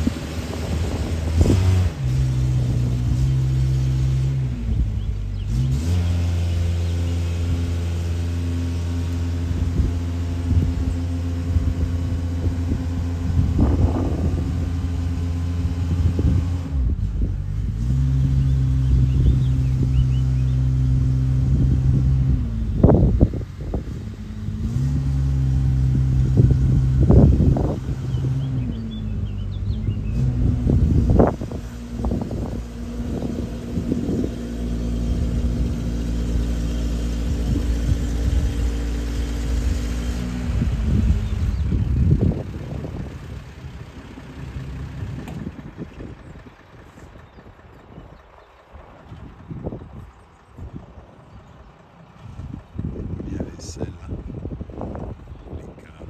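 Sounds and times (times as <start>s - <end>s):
diesel lorry engines humming: 0.0s - 56.0s.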